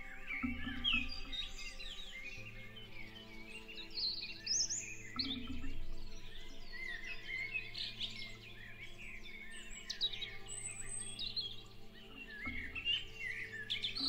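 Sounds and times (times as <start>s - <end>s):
soft music of held chords: 0.0s - 14.0s
songbirds singing and calling: 0.0s - 14.0s.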